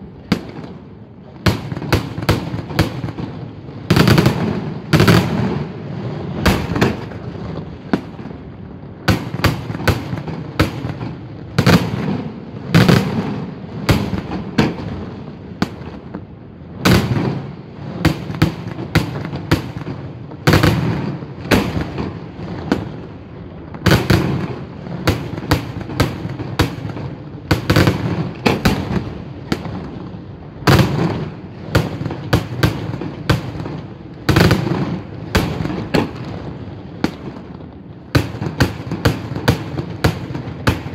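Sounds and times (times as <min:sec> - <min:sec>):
fireworks bursting with bangs: 0:00.0 - 0:40.9.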